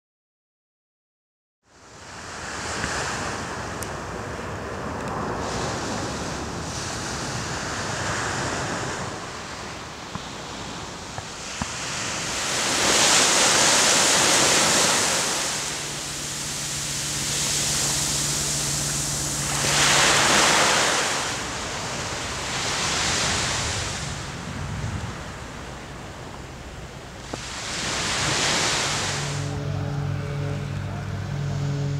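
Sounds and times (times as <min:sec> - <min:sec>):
small waves breaking on sand: 0:01.7 - 0:29.5.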